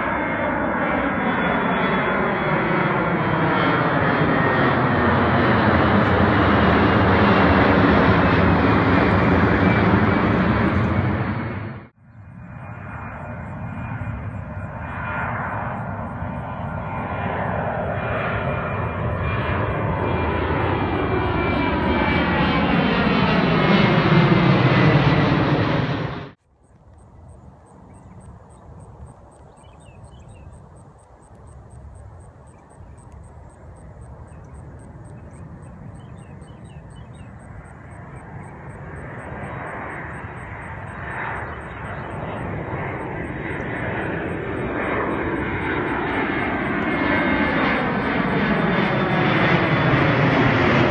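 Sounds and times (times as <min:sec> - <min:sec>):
high jet whine: 0:00.0 - 0:50.9
jet airliner flying overhead: 0:00.0 - 0:50.9.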